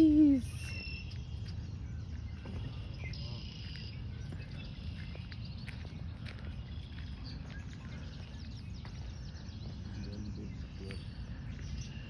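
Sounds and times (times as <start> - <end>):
birds and insects chirping: 0.0 - 12.0.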